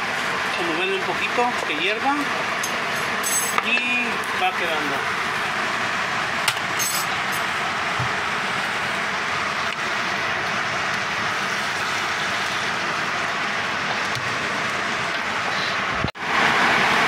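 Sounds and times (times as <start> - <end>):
sauce sizzling and bubbling in pot: 0.0 - 15.5.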